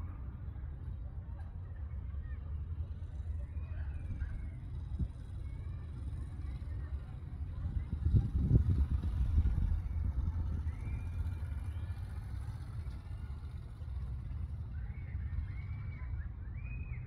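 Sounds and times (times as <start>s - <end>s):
low outdoor rumble: 0.0s - 17.0s
faint high whistling tones: 2.2s - 17.0s.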